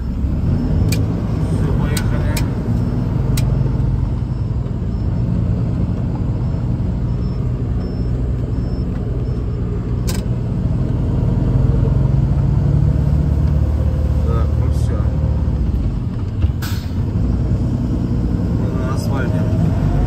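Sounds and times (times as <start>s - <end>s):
diesel truck engine pulling away: 0.0s - 20.0s.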